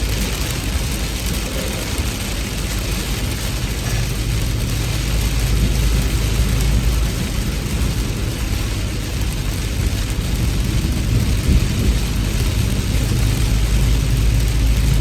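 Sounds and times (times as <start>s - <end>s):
deep rumble: 0.0s - 15.0s
heavy rain falling: 0.0s - 15.0s.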